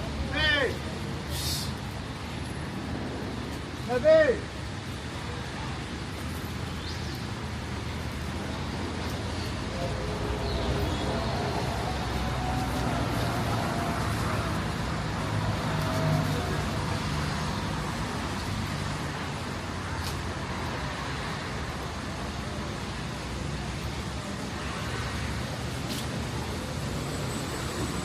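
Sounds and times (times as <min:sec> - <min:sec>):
street traffic passing: 0:00.0 - 0:28.0.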